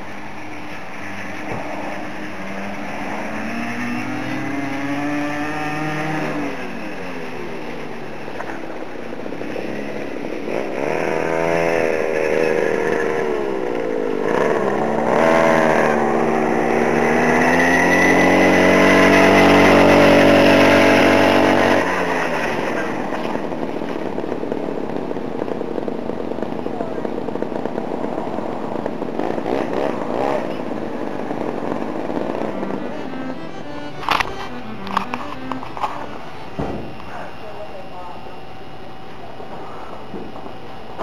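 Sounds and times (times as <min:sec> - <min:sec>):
vehicle engine accelerating: 0:00.0 - 0:37.4.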